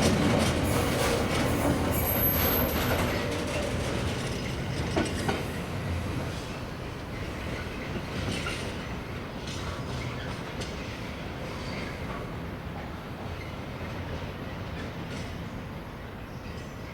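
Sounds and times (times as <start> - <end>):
sharp clicks of train wheels: 0.0 - 15.5
train rumbling on track: 0.0 - 16.9.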